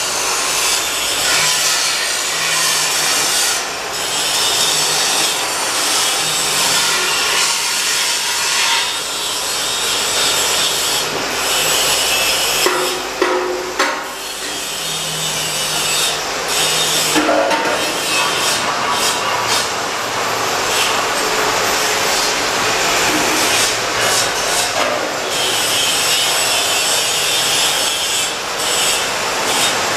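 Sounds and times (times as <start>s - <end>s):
metal grinding: 0.2s - 29.9s.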